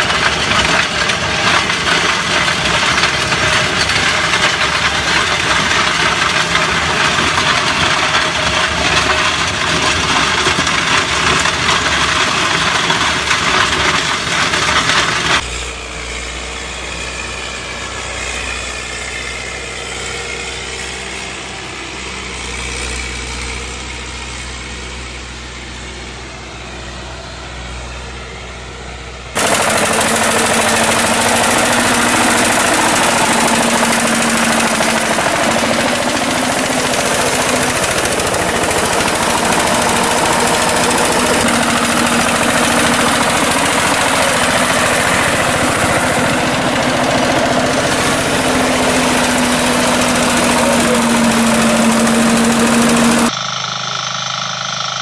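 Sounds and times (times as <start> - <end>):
diesel tiller engine running: 0.0 - 55.0.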